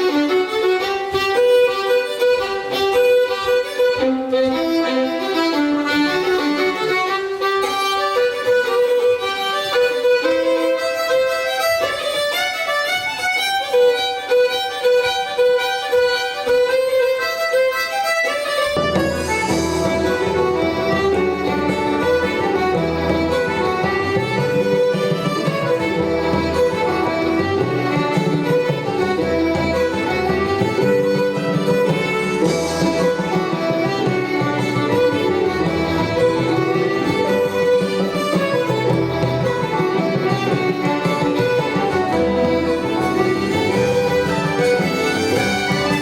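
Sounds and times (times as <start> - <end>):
fiddle: 0.0 - 46.0
guitar accompaniment: 0.0 - 46.0.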